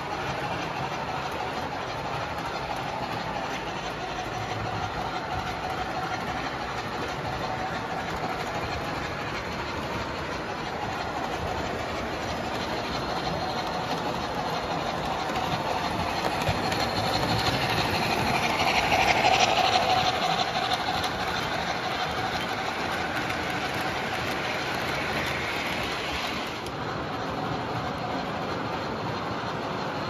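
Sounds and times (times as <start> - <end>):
model train rolling on track: 0.0 - 30.0.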